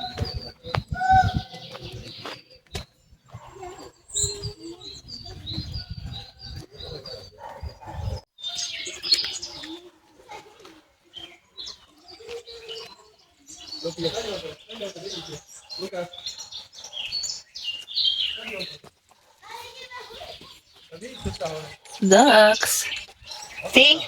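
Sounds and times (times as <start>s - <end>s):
small birds chirping: 0.0s - 9.9s, 11.1s - 18.8s, 20.2s - 24.0s.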